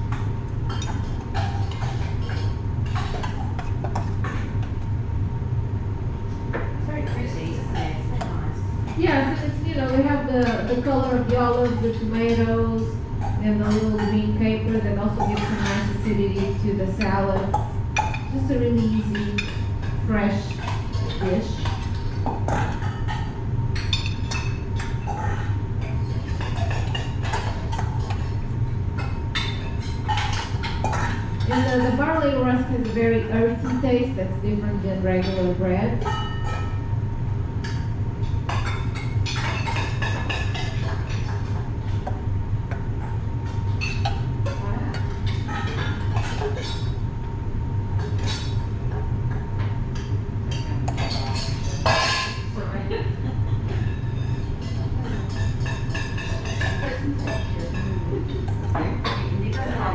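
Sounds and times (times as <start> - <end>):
low rumble of machinery: 0.0 - 59.9
steady low hum: 0.0 - 59.9.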